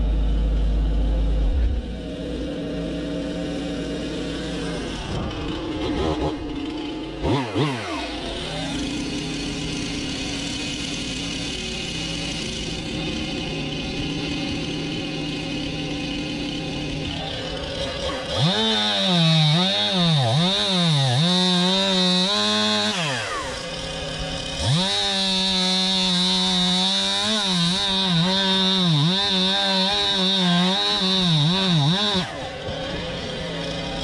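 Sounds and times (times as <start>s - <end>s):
engine running: 0.0s - 34.0s.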